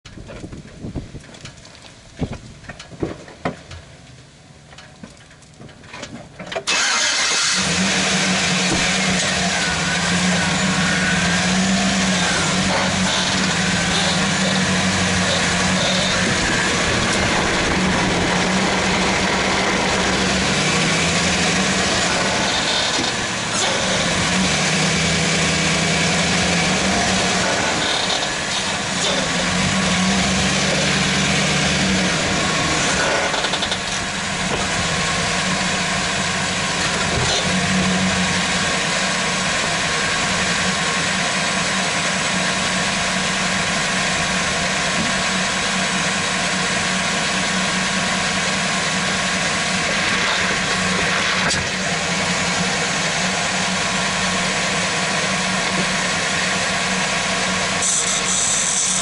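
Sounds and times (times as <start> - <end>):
truck engine running: 0.1 - 59.0.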